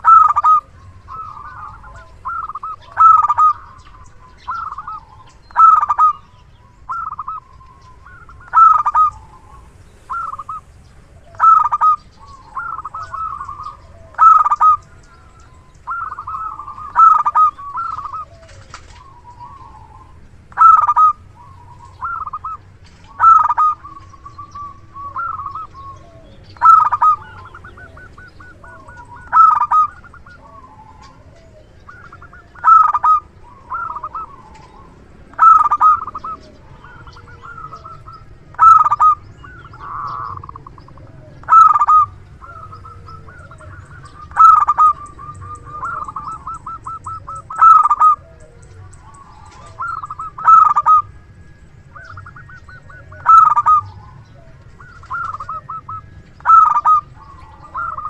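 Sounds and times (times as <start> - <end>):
dove cooing: 0.0 - 58.0
low steady hum: 0.0 - 58.0.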